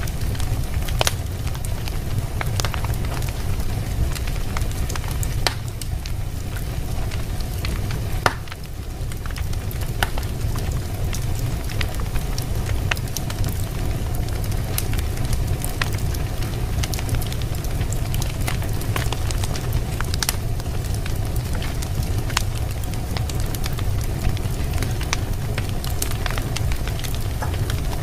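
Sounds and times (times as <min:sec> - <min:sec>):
fire crackling: 0:00.0 - 0:28.0
low fire rumble: 0:00.0 - 0:28.0.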